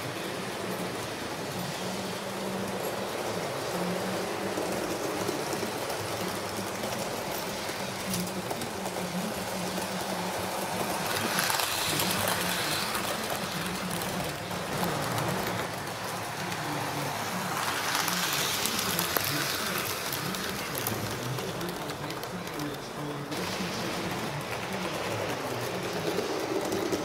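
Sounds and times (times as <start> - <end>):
train running on track: 0.0 - 27.0.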